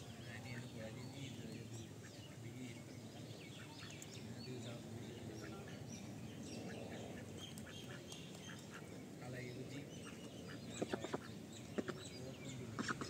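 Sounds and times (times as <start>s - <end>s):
outdoor background hum: 0.0s - 13.0s
small birds chirping: 0.0s - 13.0s.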